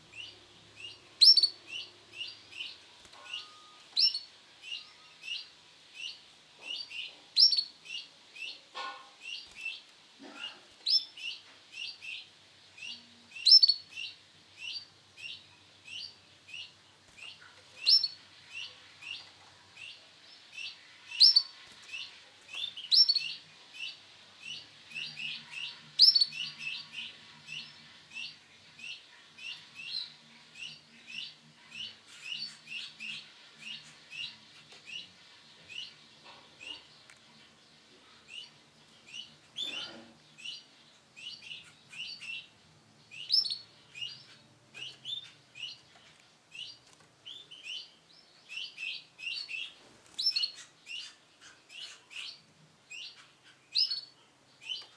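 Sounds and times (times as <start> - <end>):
canary chirping: 0.0 - 54.9.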